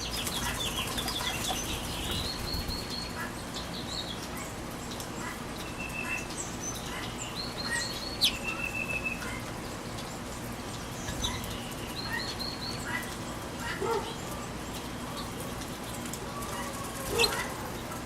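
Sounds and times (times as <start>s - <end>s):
birds chirping: 0.0s - 18.0s
rain hiss: 0.0s - 18.0s.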